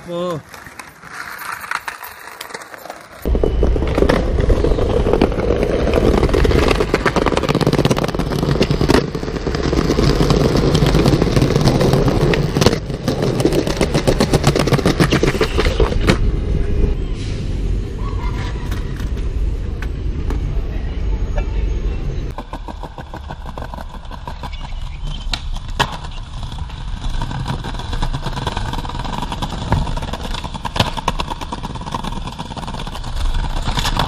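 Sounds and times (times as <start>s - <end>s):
skateboard wheels rolling on concrete: 0.0s - 34.0s.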